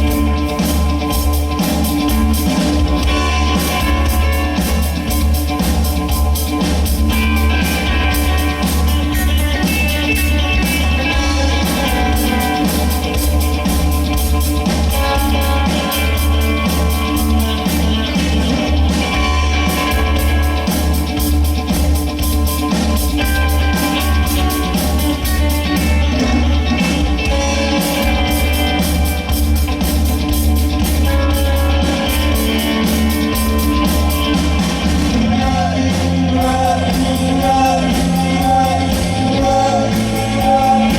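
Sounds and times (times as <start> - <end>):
bass: 0.0 - 40.9
drums: 0.0 - 40.9
electric guitar: 0.0 - 40.9.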